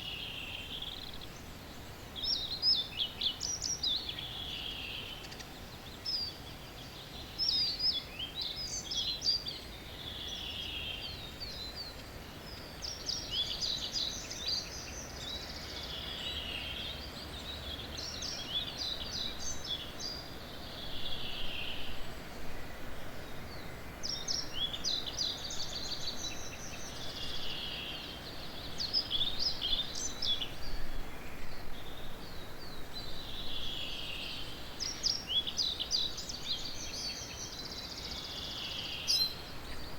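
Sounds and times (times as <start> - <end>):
faint background noise: 0.0 - 39.9
songbirds singing: 0.0 - 39.9.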